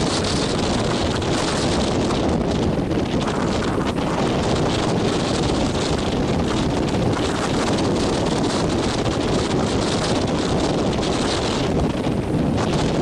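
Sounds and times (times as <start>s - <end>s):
breaking surf: 0.0s - 13.0s
wind buffeting microphone: 0.0s - 13.0s.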